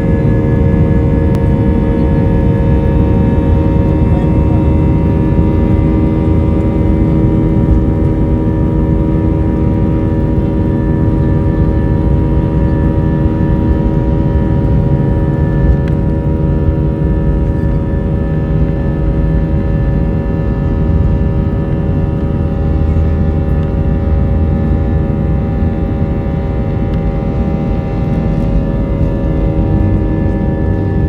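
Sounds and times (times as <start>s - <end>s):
airplane engines running: 0.0s - 31.0s.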